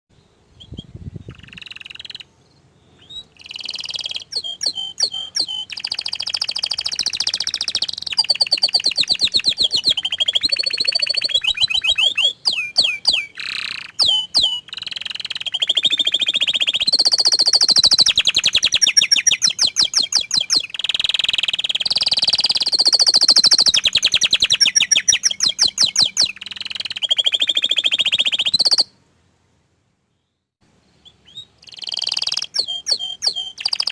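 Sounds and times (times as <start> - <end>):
canary singing: 0.5 - 28.9, 31.0 - 33.9.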